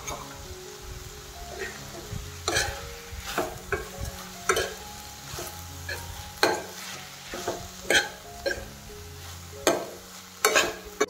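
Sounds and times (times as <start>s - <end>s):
vegetables sizzling in oil: 0.0s - 11.0s
metal spoon scraping metal pan: 1.5s - 11.0s.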